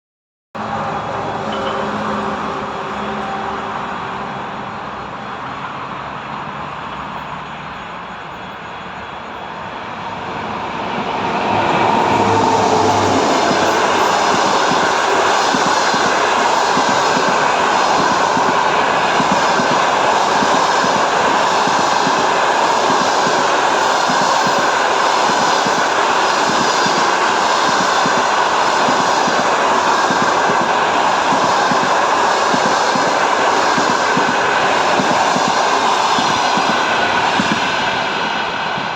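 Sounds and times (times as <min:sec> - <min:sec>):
train passing: 0:00.6 - 0:38.9.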